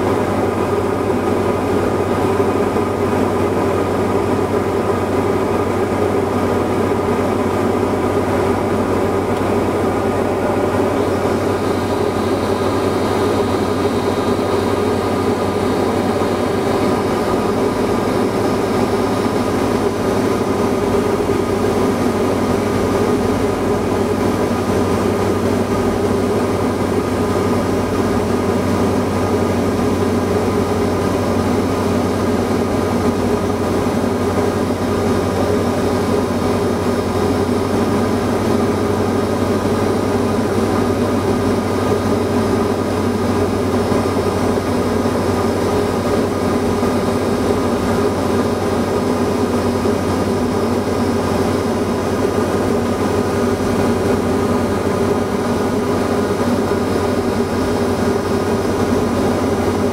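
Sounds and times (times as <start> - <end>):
aircraft engine drone: 0.0 - 59.9.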